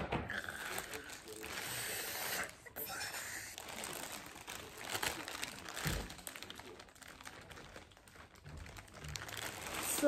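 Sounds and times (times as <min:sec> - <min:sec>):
packaging crinkling and rustling: 0:00.3 - 0:10.0.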